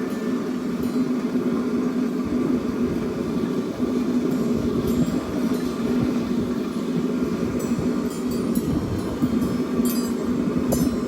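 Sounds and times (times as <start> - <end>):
forge rushing hum: 0.0 - 11.0.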